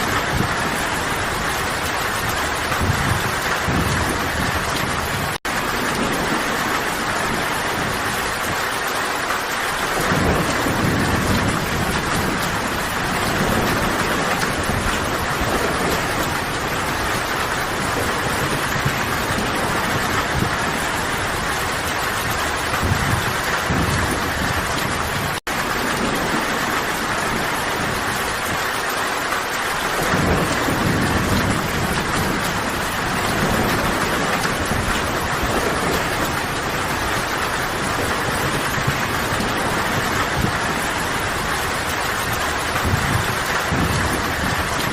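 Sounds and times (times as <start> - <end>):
heavy rain: 0.0 - 44.9
thunder rumbling: 0.0 - 44.9.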